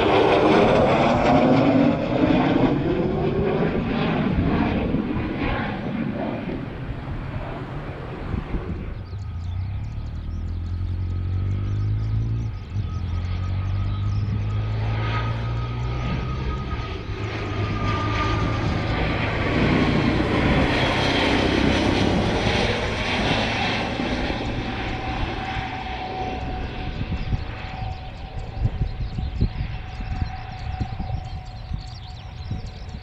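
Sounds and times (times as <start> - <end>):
aircraft engine whine flying past: 0.0 - 33.0.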